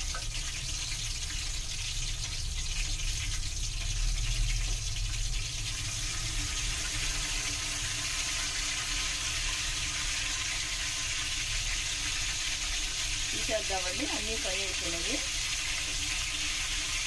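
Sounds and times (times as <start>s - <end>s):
oil sizzling in deep fryer: 0.0s - 17.0s.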